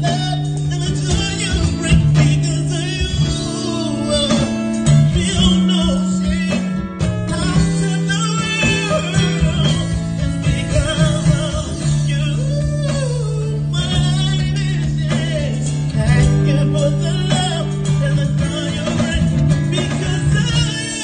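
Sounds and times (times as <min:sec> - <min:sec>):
man singing a slow ballad: 0:00.0 - 0:21.0
small band playing: 0:00.0 - 0:21.0.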